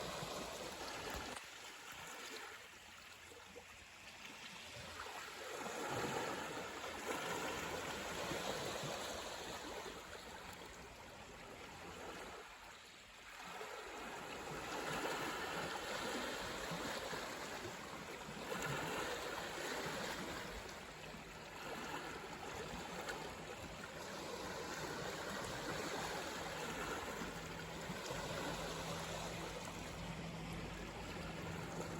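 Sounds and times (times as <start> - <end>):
sea waves washing in: 0.0 - 2.6, 4.6 - 31.9.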